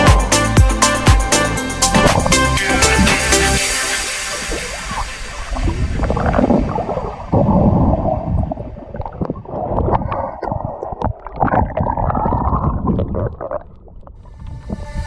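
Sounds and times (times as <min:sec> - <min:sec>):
muffled underwater gurgling: 0:01.9 - 0:15.0.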